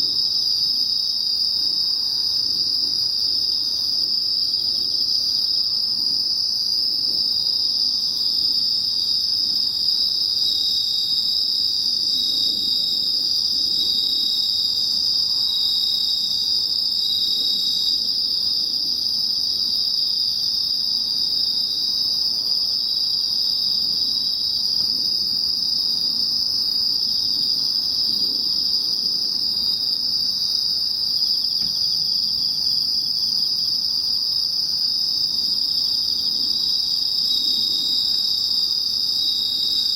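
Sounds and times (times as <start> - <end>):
crickets trilling: 0.0 - 39.9
faint cricket chirping: 0.0 - 39.9.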